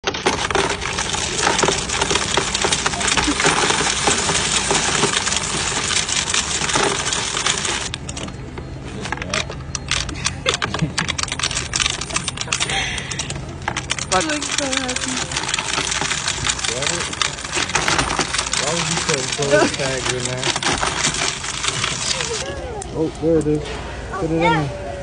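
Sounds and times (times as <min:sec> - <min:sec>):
coins clattering in a counting machine: 0:00.0 - 0:08.2, 0:09.2 - 0:22.5.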